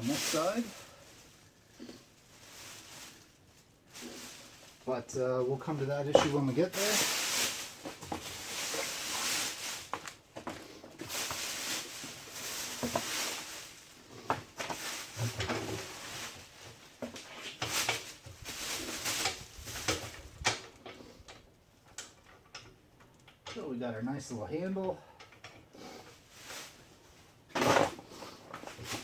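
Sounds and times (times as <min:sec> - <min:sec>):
cardboard packaging rustling: 0:00.0 - 0:20.7, 0:26.1 - 0:29.0.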